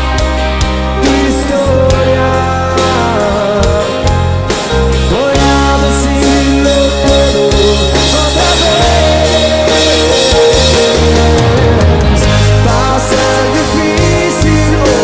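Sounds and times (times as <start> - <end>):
acoustic guitar: 0.0 - 15.0
bass guitar: 0.0 - 15.0
drums: 0.0 - 15.0
man singing: 1.0 - 15.0.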